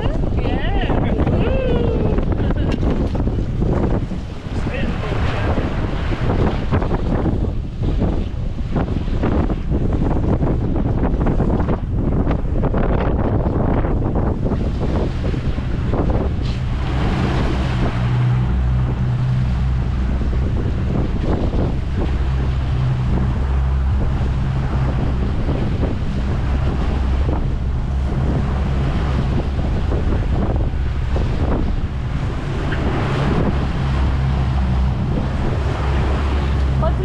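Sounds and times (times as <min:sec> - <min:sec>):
boat engine droning: 0:00.0 - 0:37.0
sea water rushing: 0:00.0 - 0:37.0
wind buffeting microphone: 0:00.0 - 0:37.0.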